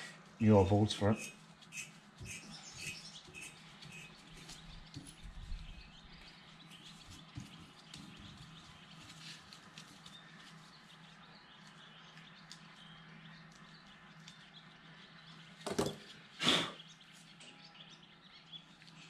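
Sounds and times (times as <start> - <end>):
faint bird chirps: 0.0 - 9.4, 10.0 - 19.0.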